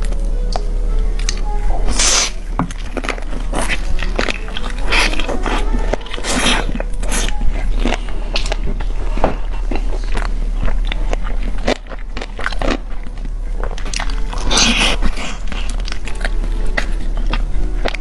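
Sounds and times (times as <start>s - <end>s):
crunchy chewing of fried chicken: 1.2s - 18.0s.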